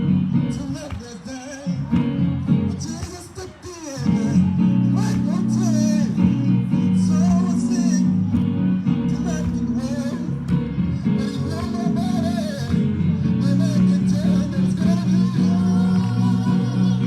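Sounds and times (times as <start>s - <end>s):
held bass notes: 0.0s - 0.8s, 1.8s - 3.0s, 4.1s - 17.0s.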